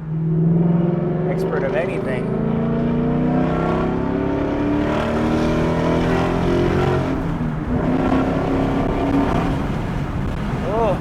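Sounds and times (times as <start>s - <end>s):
car engine heard from cabin: 0.0s - 11.0s.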